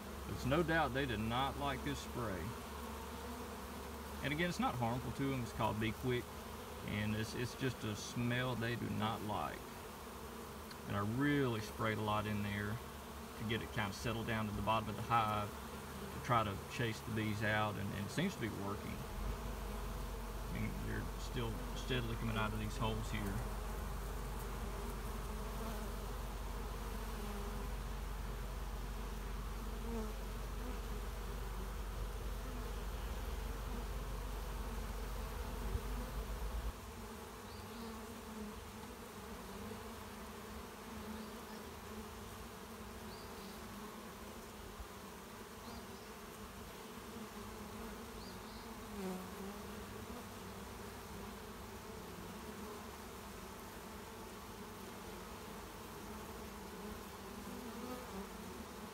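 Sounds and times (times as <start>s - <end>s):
honeybees buzzing: 0.0s - 58.9s.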